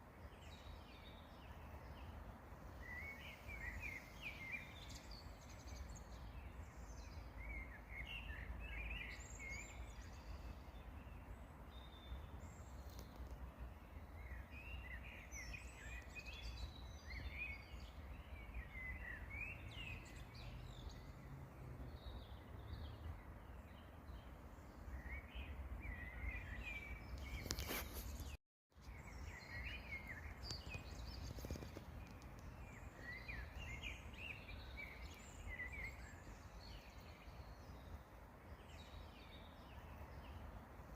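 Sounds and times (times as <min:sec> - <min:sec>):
songbirds twittering: 0:00.0 - 0:40.9.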